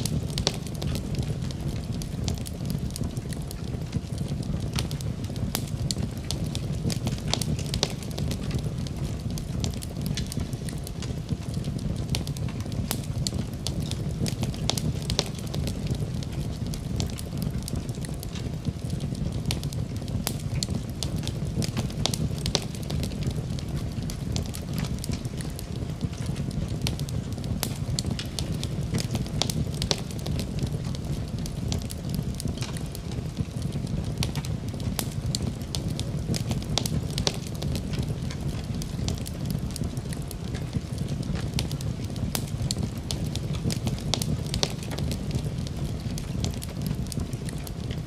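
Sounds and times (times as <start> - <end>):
fire flames rumbling: 0.0 - 48.0
wood fire crackling and popping: 0.0 - 48.0.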